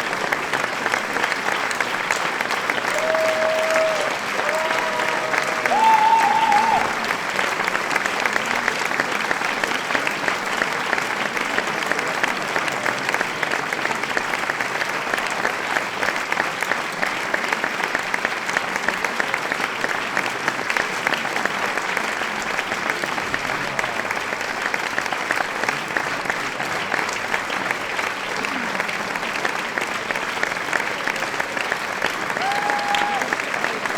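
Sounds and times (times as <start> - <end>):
crowd applauding: 0.0 - 33.9.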